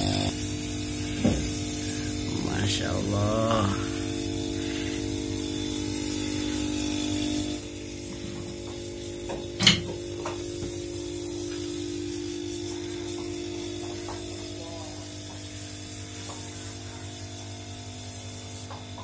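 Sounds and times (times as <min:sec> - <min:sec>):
machinery humming: 0:00.0 - 0:15.4
hiss: 0:00.3 - 0:19.0.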